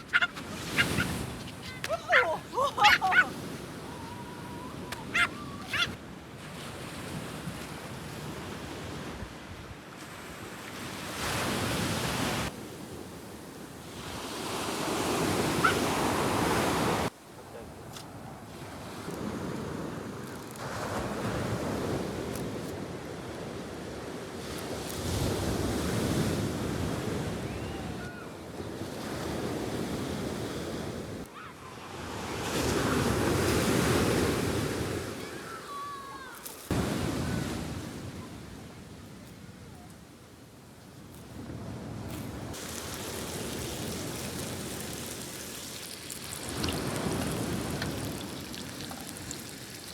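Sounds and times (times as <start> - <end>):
sea waves washing onto shore: 0.0 - 9.0, 9.9 - 38.2, 41.4 - 49.9
wind: 0.0 - 49.9.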